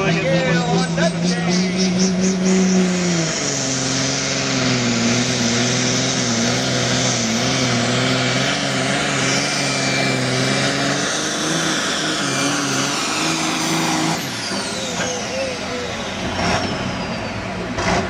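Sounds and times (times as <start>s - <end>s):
diesel engine under full load: 0.0s - 18.0s.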